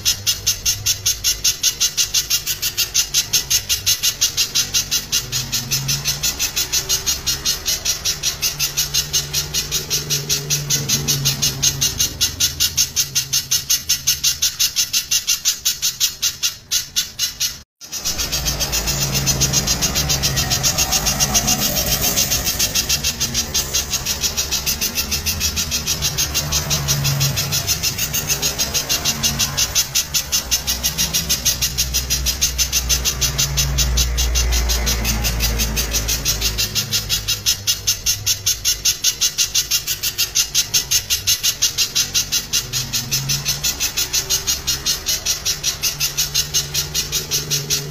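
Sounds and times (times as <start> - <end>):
bird calling sharp notes: 0.0 - 47.9.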